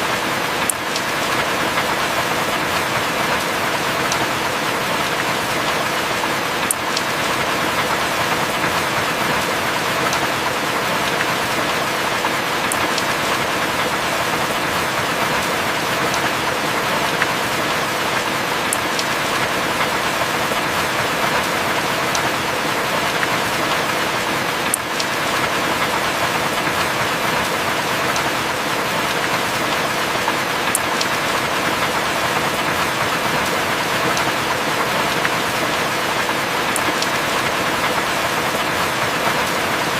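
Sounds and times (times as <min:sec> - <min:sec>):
heavy rain falling: 0:00.0 - 0:39.9
sharp raindrop ticks: 0:00.2 - 0:39.9.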